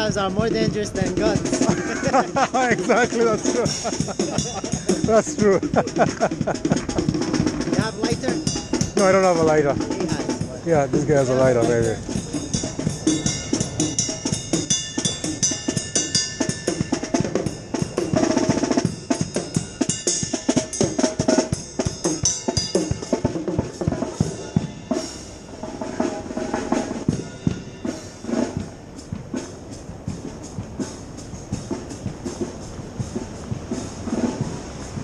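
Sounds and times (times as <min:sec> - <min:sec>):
fast snare drumming: 0:00.0 - 0:25.2, 0:25.8 - 0:35.0.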